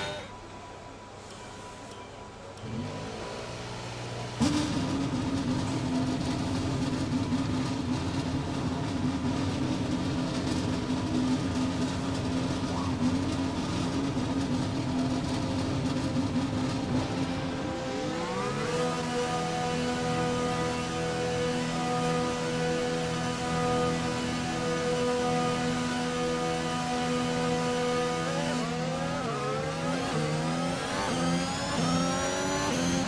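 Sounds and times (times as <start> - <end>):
racing car engine running: 2.5 - 33.0.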